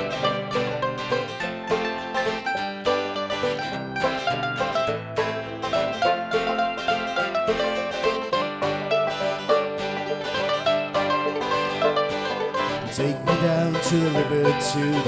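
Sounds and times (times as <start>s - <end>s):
acoustic string band playing: 0.0s - 15.0s.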